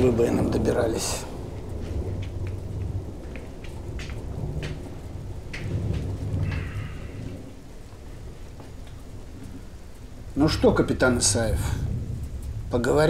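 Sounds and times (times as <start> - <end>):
low rolling thunder: 0.0 - 13.0
steady rain: 0.0 - 13.0.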